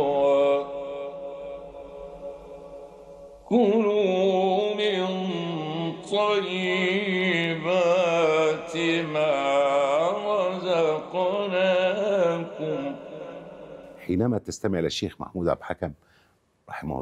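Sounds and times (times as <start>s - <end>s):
man reciting melodically: 0.0s - 2.4s, 3.5s - 16.0s.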